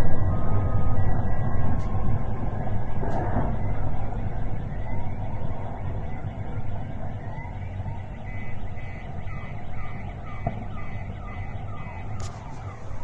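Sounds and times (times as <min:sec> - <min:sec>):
car alarm: 0:00.0 - 0:13.0
loud low rumble: 0:00.0 - 0:13.0.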